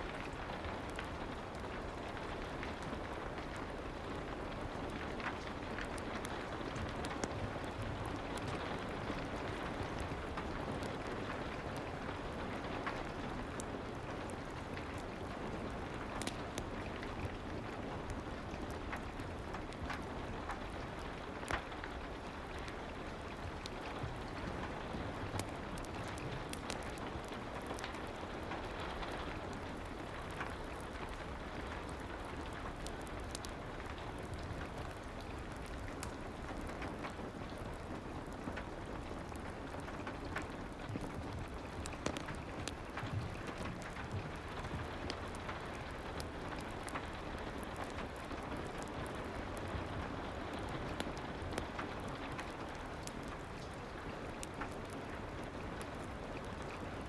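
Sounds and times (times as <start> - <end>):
fireplace crackling: 0.1 - 57.0.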